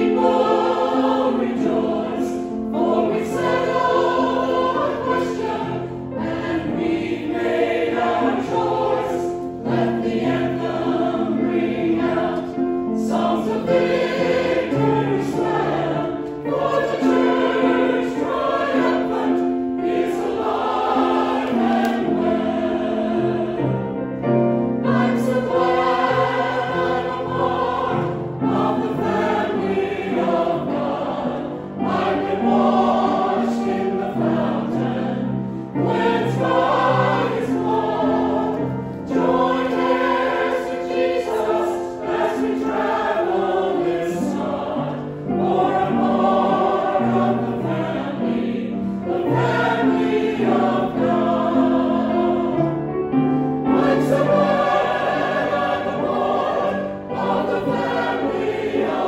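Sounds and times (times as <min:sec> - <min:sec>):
church choir singing a hymn: 0:00.0 - 0:59.0.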